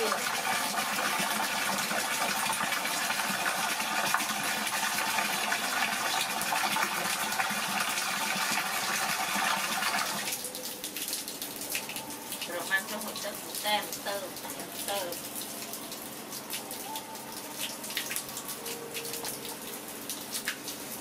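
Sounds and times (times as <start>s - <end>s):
water pouring into metal basin: 0.0s - 21.0s.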